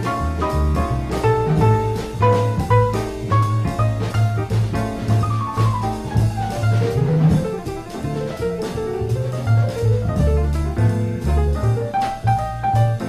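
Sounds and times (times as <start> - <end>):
instrumental jazz music: 0.0 - 13.0.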